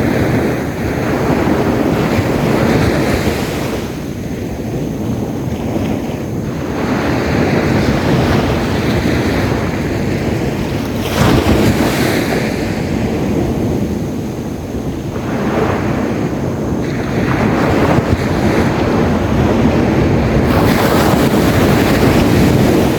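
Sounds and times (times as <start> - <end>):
sea waves breaking on beach: 0.0 - 22.9
wind rumbling on microphone: 0.0 - 22.9.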